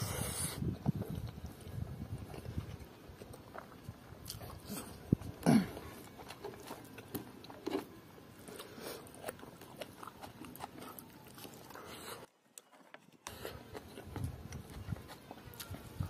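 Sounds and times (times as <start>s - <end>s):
close-up chewing: 0.1s - 16.0s.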